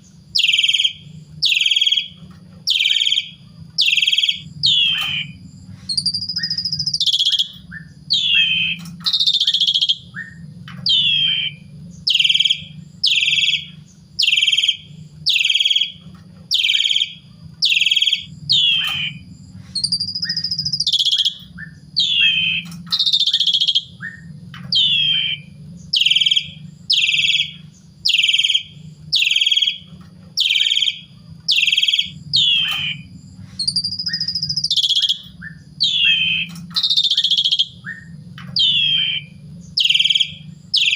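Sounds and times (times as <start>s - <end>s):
starling calling: 0.0s - 40.9s
steady low hum: 0.0s - 40.9s.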